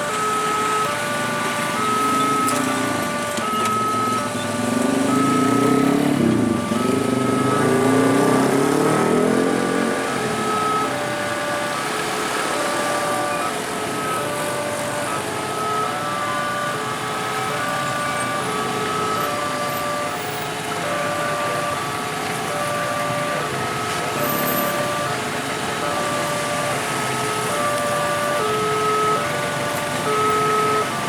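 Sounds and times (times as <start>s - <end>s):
level-crossing two-tone alarm chime: 0.0s - 21.9s, 22.6s - 31.0s
road traffic noise: 0.0s - 31.0s.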